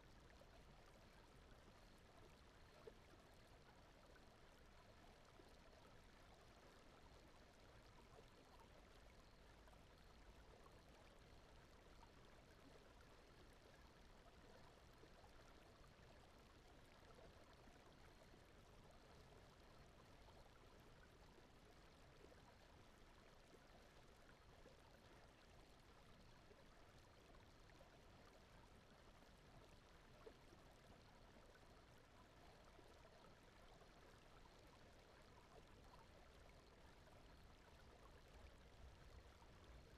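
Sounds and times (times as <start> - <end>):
soft rushing water noise: 0.0 - 39.9.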